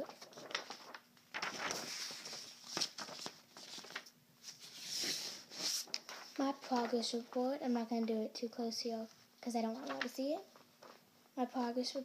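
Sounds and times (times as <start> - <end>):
paper rustling: 0.0 - 8.2, 9.6 - 11.1.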